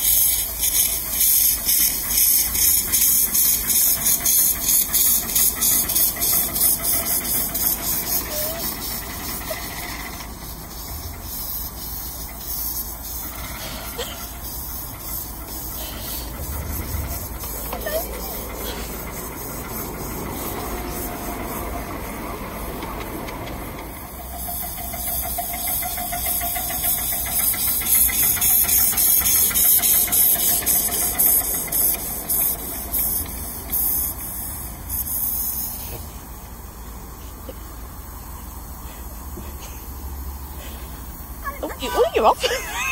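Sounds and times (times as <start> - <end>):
steam locomotive chuffing: 0.0 - 42.9
train cars rolling on track: 0.0 - 42.9.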